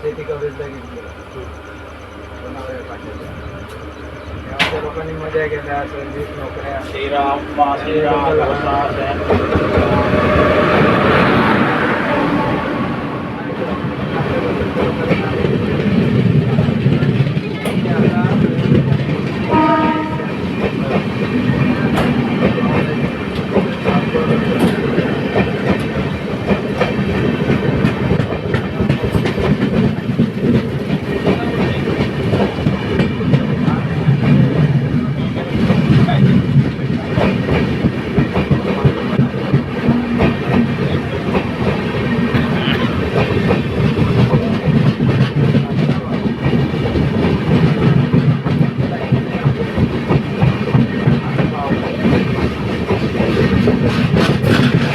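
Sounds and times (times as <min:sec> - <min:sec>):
train coach rumble: 0:00.0 - 0:54.9
wheels clattering on rails: 0:02.4 - 0:12.1, 0:13.3 - 0:54.9.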